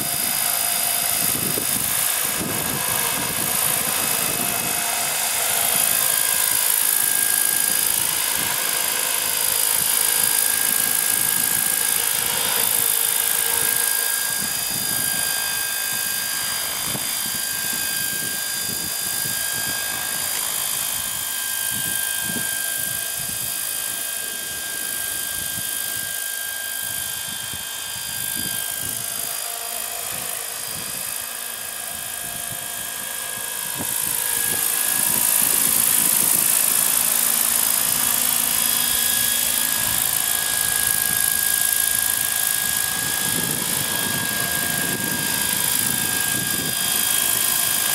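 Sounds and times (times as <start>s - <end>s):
rc helicopter motor whine: 0.0s - 47.9s
rotors whirring: 0.0s - 47.9s.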